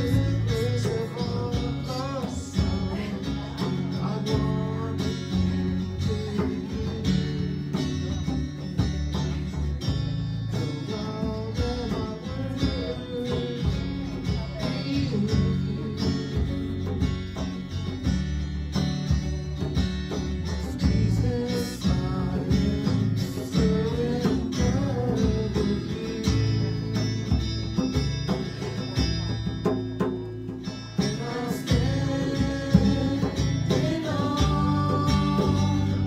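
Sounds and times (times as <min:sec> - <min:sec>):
electric guitar strummed chords: 0:00.0 - 0:36.0.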